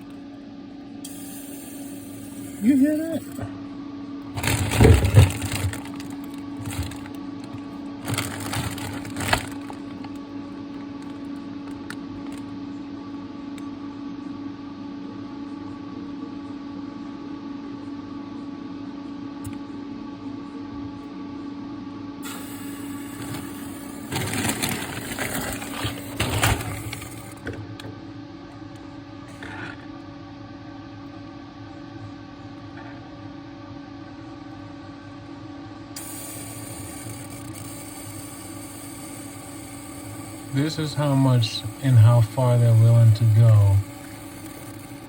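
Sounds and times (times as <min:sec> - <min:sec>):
refrigerator humming: 0:00.0 - 0:45.0.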